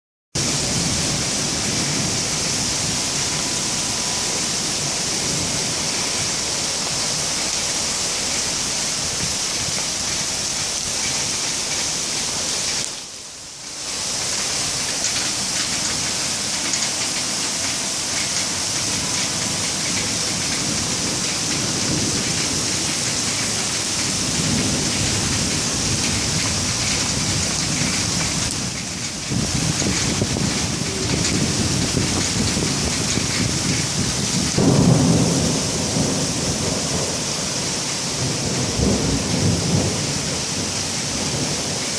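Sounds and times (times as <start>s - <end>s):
thunder rumbles: 0.4s - 13.0s, 13.8s - 41.9s
torrential rain hiss: 0.4s - 41.9s.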